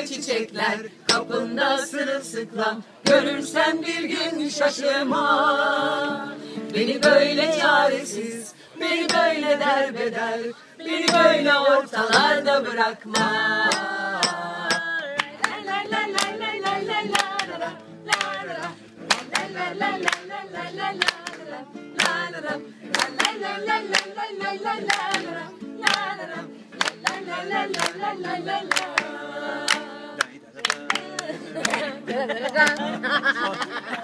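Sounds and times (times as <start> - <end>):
acoustic guitar: 0.0 - 34.0
people singing together: 0.0 - 34.0.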